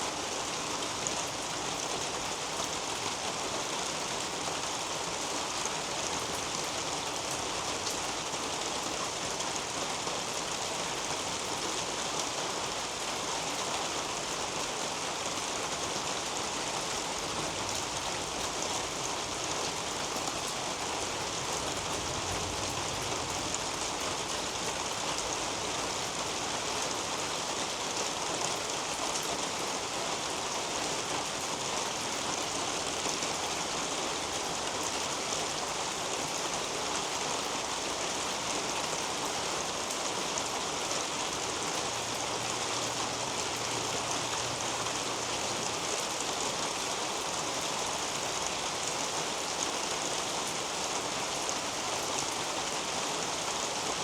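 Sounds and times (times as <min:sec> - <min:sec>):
rain on leaves and roof: 0:00.0 - 0:54.0.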